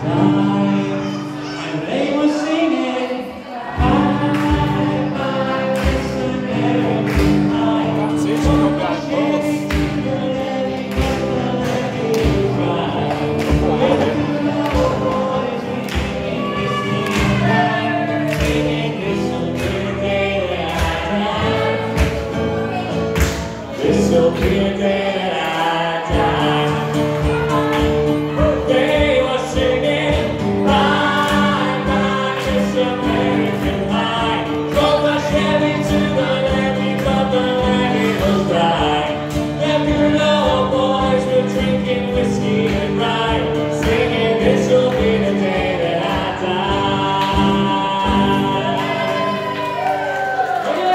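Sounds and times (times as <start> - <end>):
group singing over steady beat: 0.0 - 49.8.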